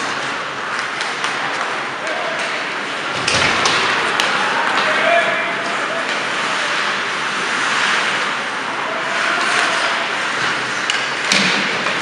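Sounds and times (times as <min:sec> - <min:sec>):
skates scraping on ice: 0:00.0 - 0:12.0.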